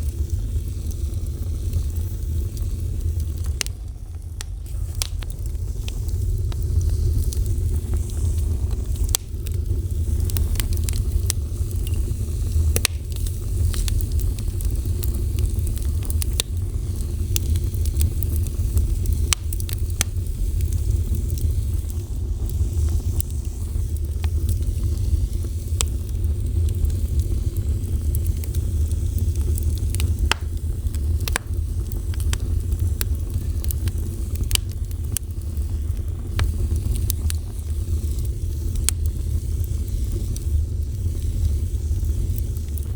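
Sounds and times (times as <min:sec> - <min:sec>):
fire crackling and popping: 0:00.0 - 0:42.9.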